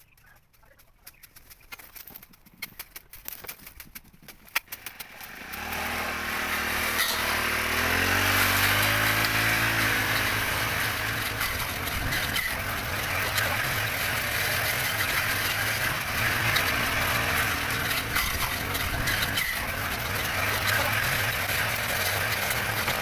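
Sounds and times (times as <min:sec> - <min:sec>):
engine starting and running: 0:04.5 - 0:23.0.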